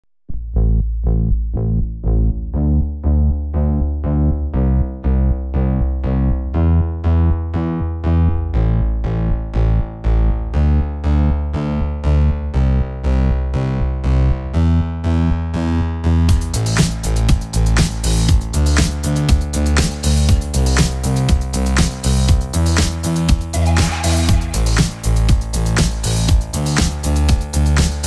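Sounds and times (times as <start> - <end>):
electronic music with deep bass: 0.3 - 28.0.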